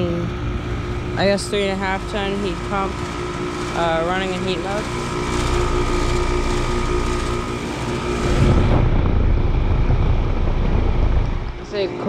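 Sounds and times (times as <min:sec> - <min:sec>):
fan air rushing: 0:00.0 - 0:12.0
heat pump compressor humming: 0:00.0 - 0:12.0
low rumble: 0:00.0 - 0:12.0.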